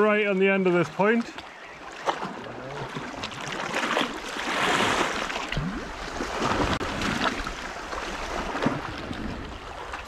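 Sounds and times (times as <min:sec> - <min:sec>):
waves splashing over rocks: 0:00.1 - 0:10.0.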